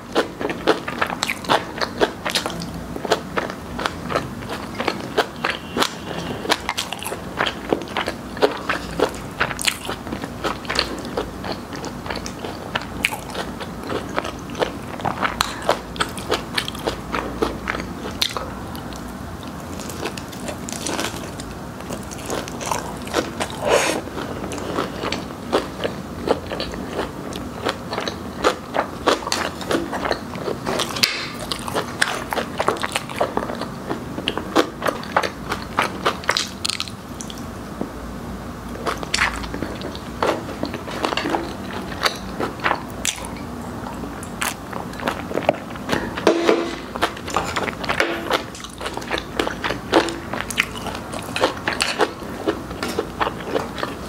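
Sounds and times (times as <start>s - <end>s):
crunching and chewing fried chicken: 0.0s - 38.0s, 38.6s - 54.0s.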